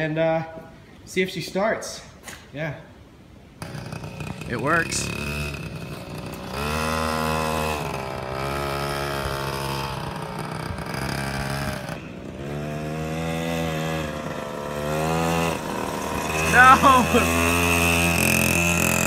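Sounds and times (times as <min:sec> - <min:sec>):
small two-stroke engine revving: 0:03.6 - 0:19.0.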